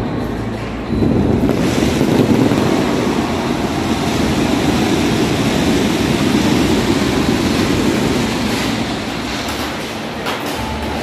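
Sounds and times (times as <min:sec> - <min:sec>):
fireworks barrage rumble and crackle: 0:00.0 - 0:11.0.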